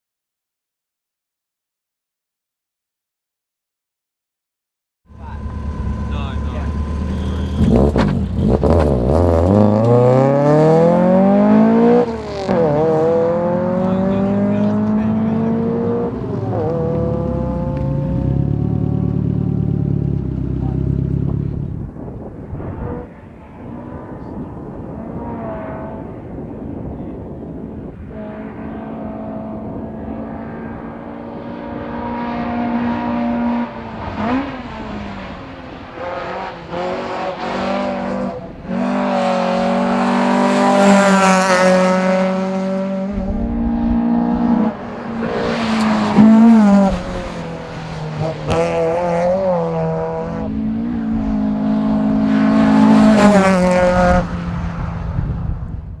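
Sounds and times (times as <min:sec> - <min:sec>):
race car engine revving: 0:05.1 - 0:55.8.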